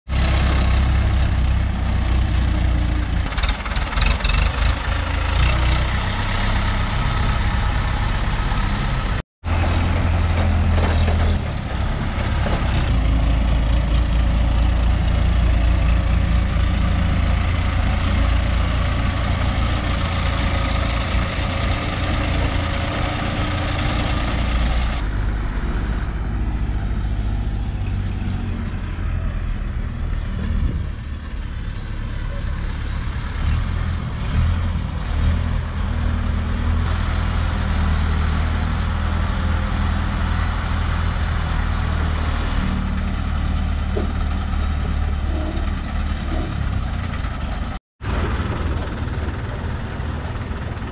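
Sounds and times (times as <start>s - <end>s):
diesel engines running: 0.1s - 50.9s.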